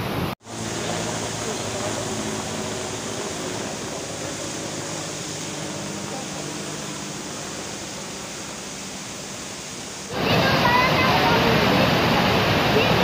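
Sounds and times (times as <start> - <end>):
helicopter flying in distance: 0.4 - 11.8.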